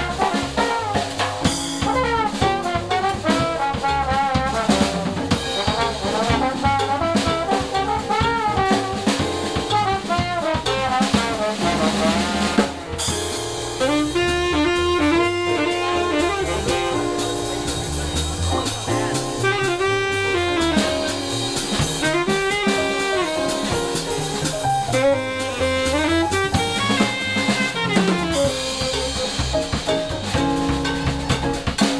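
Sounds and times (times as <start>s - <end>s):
saxophone melody: 0.0s - 13.1s, 13.8s - 18.0s, 18.7s - 29.8s
lower accompaniment: 0.0s - 31.8s
cymbals: 0.0s - 31.9s
drum kit: 0.0s - 31.9s.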